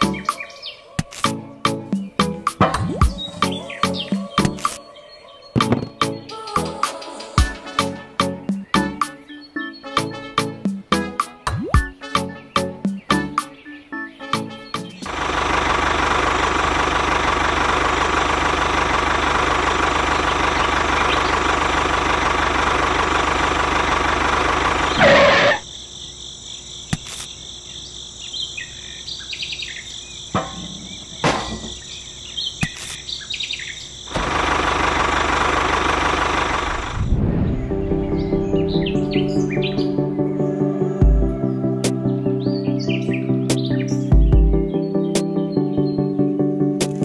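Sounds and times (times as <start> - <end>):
birds chirping: 0.0 - 34.2, 34.9 - 46.8.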